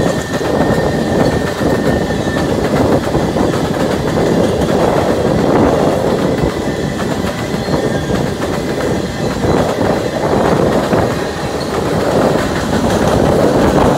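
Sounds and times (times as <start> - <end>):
steel wheels rumbling on rails: 0.0 - 13.9
wheels clicking over rail joints: 0.0 - 13.9.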